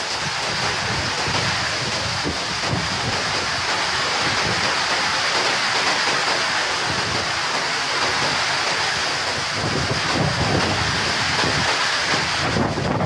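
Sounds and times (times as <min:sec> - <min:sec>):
heavy rain: 0:00.0 - 0:13.0
rushing creek water: 0:00.0 - 0:13.0.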